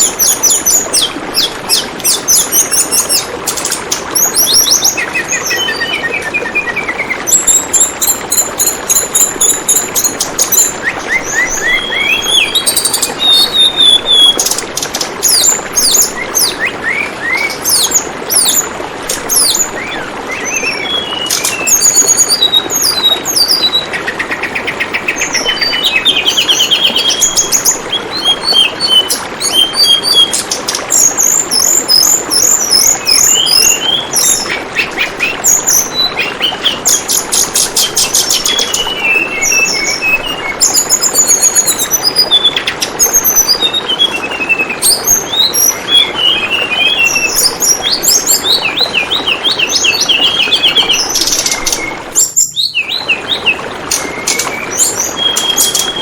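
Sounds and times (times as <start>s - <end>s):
bird chirping and trilling: 0.0s - 56.0s
flowing water rushing: 0.0s - 56.0s.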